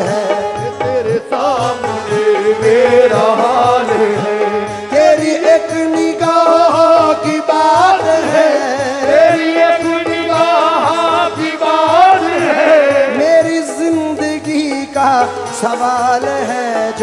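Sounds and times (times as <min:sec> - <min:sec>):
keyboard: 0:00.0 - 0:17.0
person singing gliding vocal line: 0:00.0 - 0:17.0.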